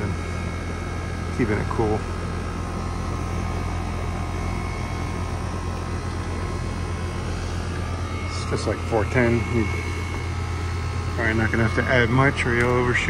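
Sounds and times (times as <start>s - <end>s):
compressor hum: 0.0s - 13.0s
condenser fan rushing: 0.0s - 13.0s.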